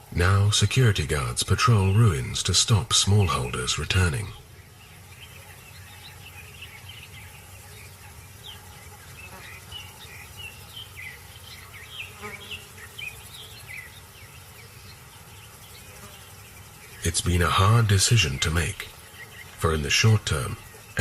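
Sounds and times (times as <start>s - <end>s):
insects buzzing: 0.0s - 21.0s
short chirping calls: 0.0s - 21.0s.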